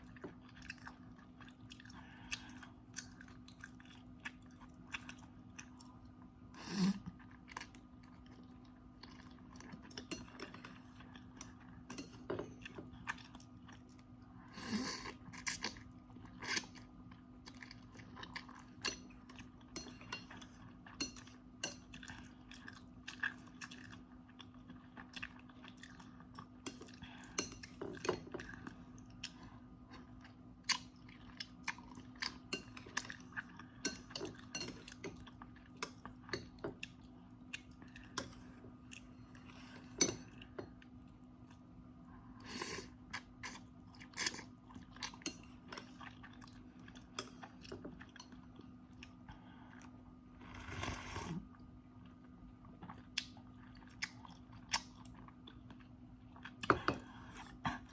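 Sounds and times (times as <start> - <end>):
chewing and crunching noodles: 0.0 - 41.7, 42.4 - 57.9
faint steady hum: 0.0 - 57.9.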